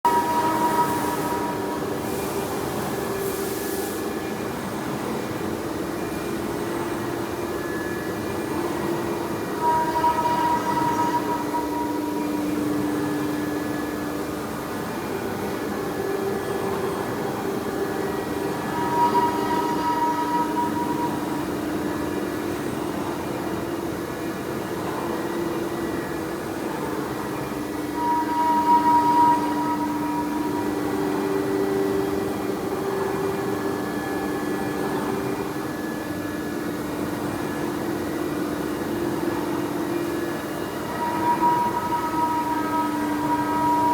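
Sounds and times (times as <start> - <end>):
cnc router spindle whine: 0.1 - 43.9.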